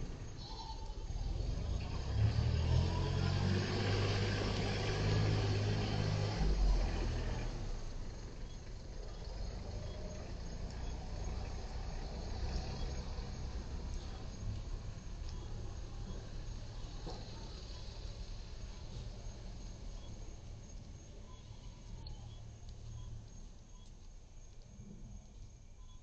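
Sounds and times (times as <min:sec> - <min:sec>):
faint background noise: 0:00.0 - 0:26.0
vehicle engine humming: 0:00.0 - 0:26.0.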